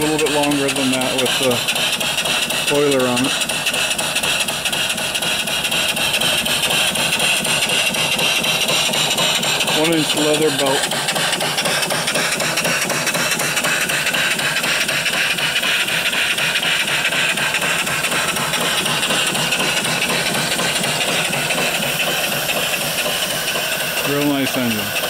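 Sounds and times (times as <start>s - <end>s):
steam engine exhaust beats: 0.0s - 25.0s
steam hissing: 0.0s - 25.0s.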